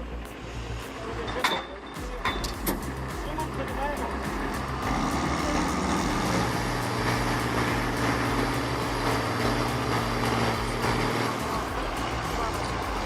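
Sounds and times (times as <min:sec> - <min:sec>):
heavy machine engine running: 0:02.0 - 0:13.0.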